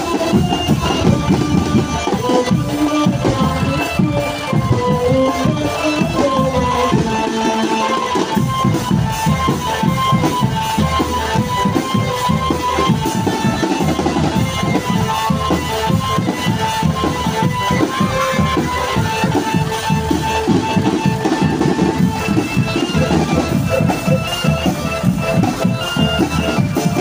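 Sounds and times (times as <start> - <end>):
fast drum rhythm: 0.0 - 27.0
high repeating melody: 0.0 - 27.0.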